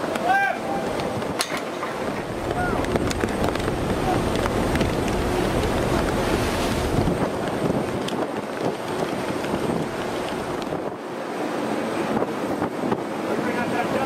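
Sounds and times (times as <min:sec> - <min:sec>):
churning sea water rushing: 0:00.0 - 0:14.0
wind buffeting microphone: 0:00.0 - 0:14.0.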